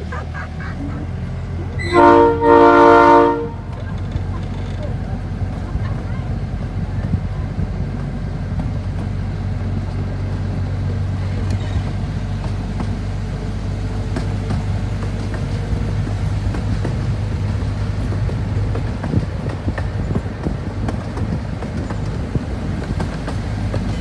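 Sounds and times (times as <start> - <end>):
miniature train rumbling: 0.0 - 24.0.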